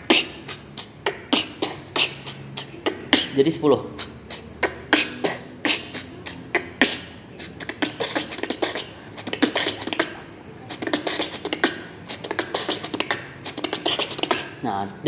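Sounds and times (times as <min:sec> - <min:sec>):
beatboxing: 0:00.0 - 0:14.7.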